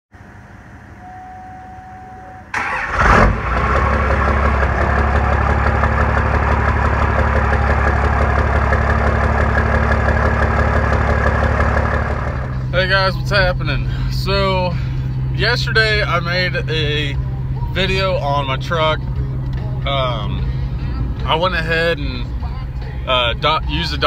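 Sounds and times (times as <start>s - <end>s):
diesel engine cranking and idling: 2.5s - 24.0s.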